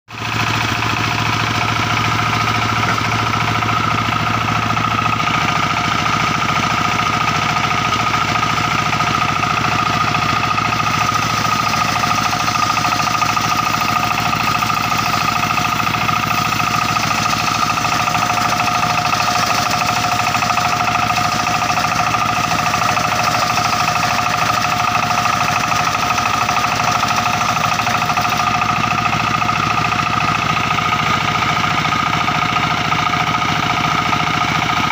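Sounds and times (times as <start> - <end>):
circular saw whining: 0.3 - 32.3.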